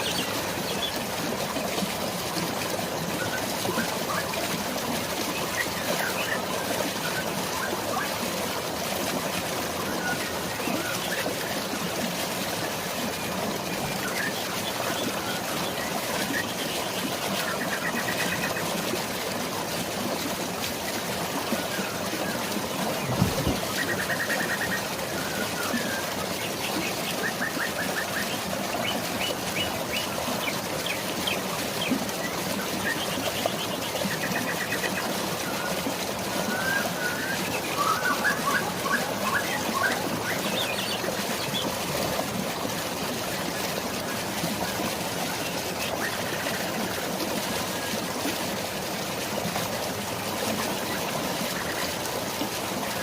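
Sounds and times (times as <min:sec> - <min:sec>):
flowing water: 0:00.0 - 0:53.0.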